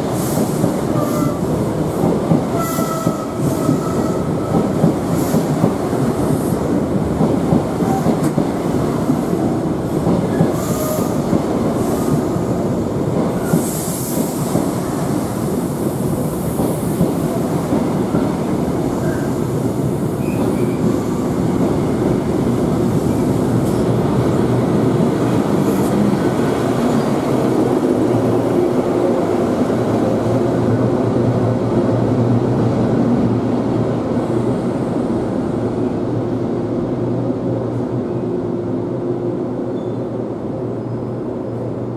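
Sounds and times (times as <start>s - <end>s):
freight train rumbling by: 0.0s - 41.9s
passenger train pulling away: 0.0s - 41.9s.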